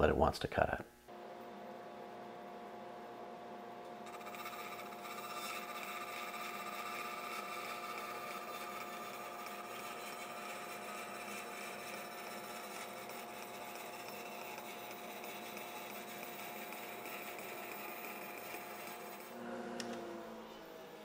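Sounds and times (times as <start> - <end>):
band saw cutting wood: 4.0 - 21.0.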